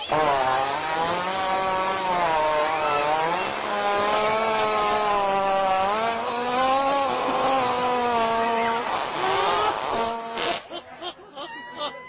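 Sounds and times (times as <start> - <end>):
hippopotamus farting: 0.0 - 10.7.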